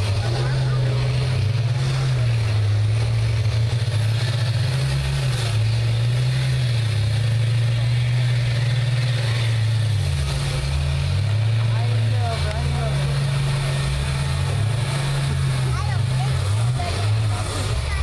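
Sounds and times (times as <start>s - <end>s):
bus engines running hard: 0.0s - 18.0s.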